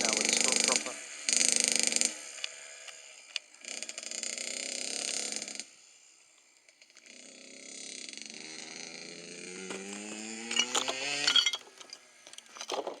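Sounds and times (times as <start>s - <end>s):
dirt bike engine accelerating: 0.0s - 13.0s.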